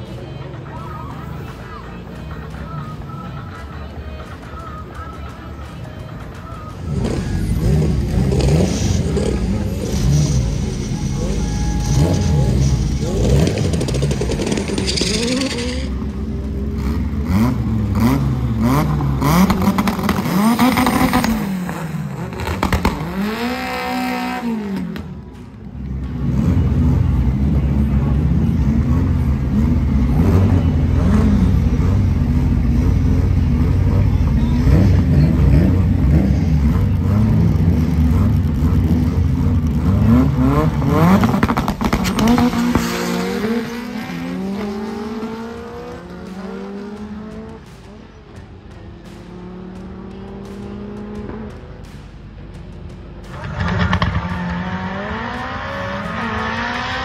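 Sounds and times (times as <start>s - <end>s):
car engines revving: 0.0s - 57.0s
loud steady engine note: 0.0s - 57.0s.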